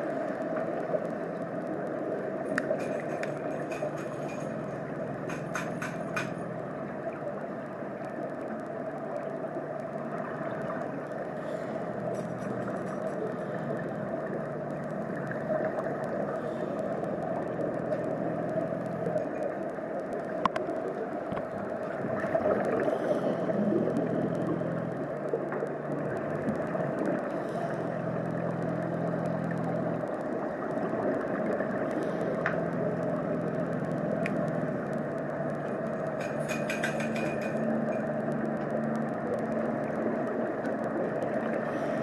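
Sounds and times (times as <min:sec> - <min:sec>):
faint clicks: 0:00.0 - 0:42.0
low machine hum: 0:00.0 - 0:42.0
underwater wash of noise: 0:00.0 - 0:42.0.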